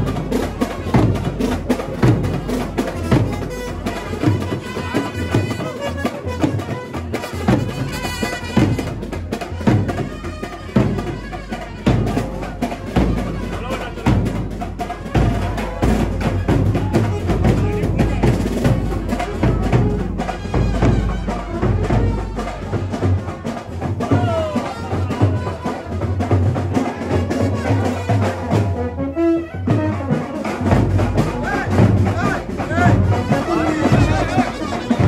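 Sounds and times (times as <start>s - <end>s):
rapid dense drumming: 0.0s - 28.9s, 29.8s - 35.0s
saxophone melody: 2.8s - 23.6s, 27.0s - 35.0s.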